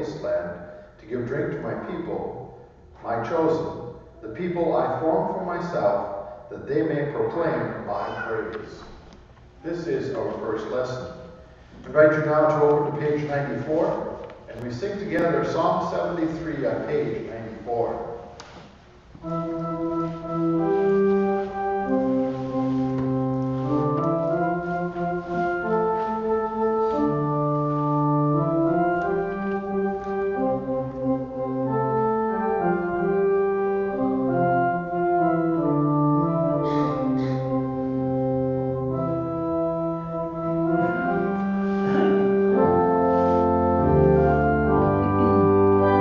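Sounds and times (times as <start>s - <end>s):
church organ playing chords: 0.0s - 46.0s.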